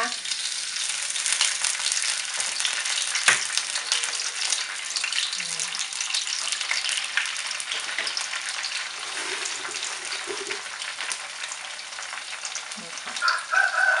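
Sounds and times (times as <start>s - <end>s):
eggs sizzling in oil: 0.0s - 14.0s.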